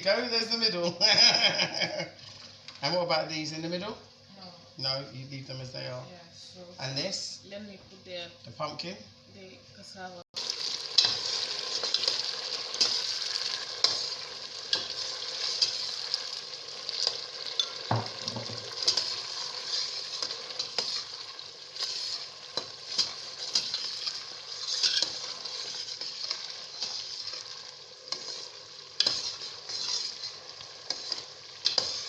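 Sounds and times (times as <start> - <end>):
sauce sizzling in oil: 0.0 - 6.0, 10.4 - 32.0.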